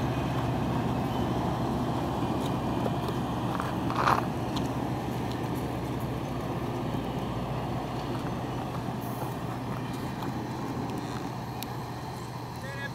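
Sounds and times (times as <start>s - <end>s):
train cars rumbling on rails: 0.0s - 12.9s.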